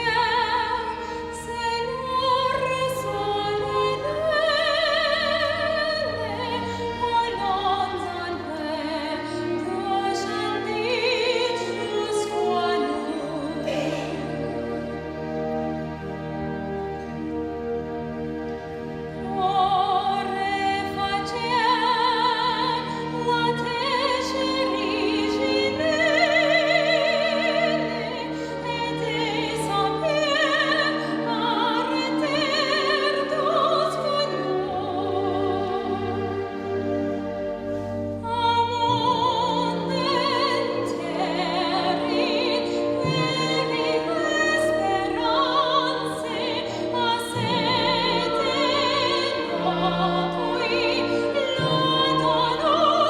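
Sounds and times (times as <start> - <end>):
instrumental accompaniment: 0.0 - 53.0
operatic singing: 0.0 - 53.0.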